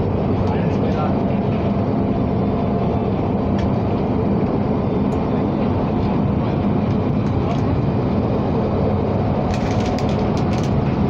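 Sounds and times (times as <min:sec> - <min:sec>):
train hum: 0:00.0 - 0:11.0
train wheels rumbling on rail: 0:00.0 - 0:11.0.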